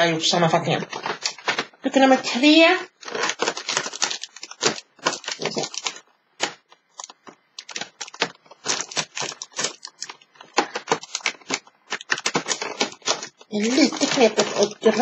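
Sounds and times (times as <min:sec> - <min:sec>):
cardboard tearing and crackling: 0:00.8 - 0:01.8, 0:02.9 - 0:15.0.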